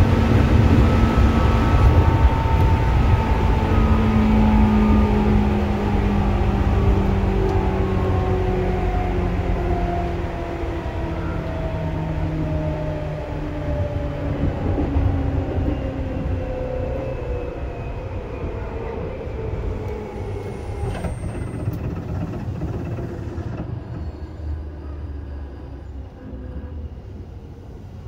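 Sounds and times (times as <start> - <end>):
electric train motor whine: 0.0 - 28.0.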